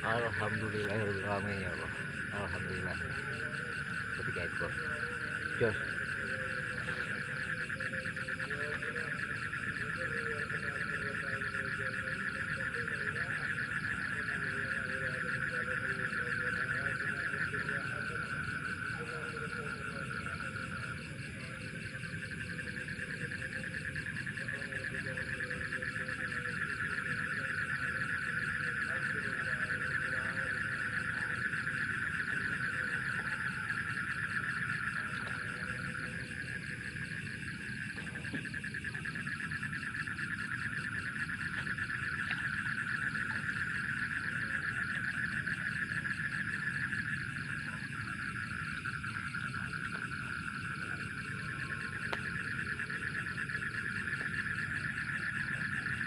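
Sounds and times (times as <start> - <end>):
crickets droning: 0.0 - 56.0
frogs calling: 0.0 - 56.0.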